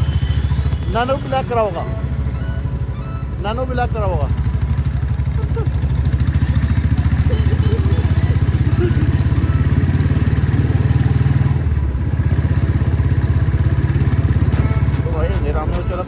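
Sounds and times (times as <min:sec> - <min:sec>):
motorcycle engine thumping: 0:00.0 - 0:16.0.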